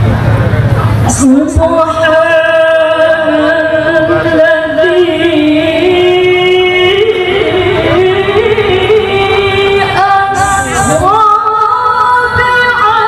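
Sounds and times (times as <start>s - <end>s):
woman chanting into microphone: 1.1s - 13.0s.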